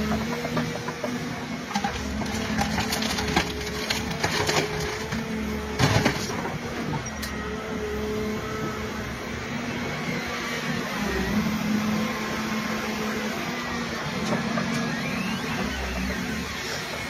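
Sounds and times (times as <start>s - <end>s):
excavator engine and hydraulics: 0.0s - 17.0s
hydraulic whine: 0.0s - 17.0s.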